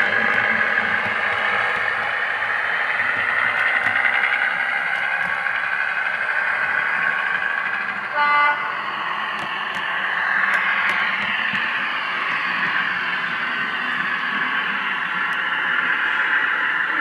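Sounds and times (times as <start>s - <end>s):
model train diesel engine sound: 0.0s - 17.0s.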